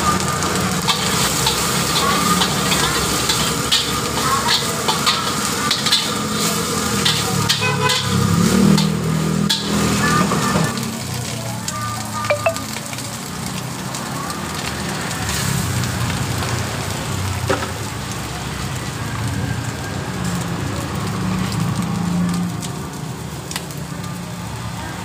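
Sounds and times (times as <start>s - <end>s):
food sizzling in a wok: 0.0s - 25.0s.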